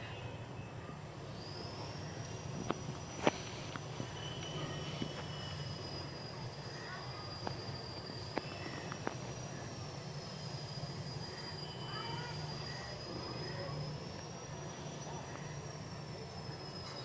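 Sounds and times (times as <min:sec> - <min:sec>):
high thin whine: 0:01.0 - 0:17.0.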